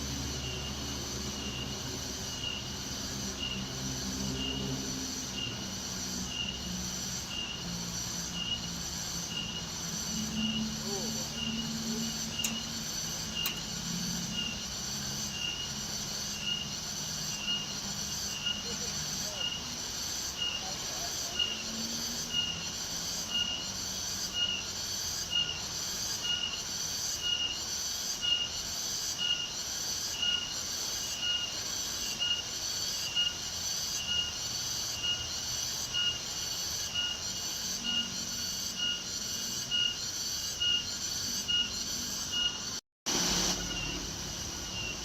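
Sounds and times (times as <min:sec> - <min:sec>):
shrill pulsing insect song: 0:00.0 - 0:45.0.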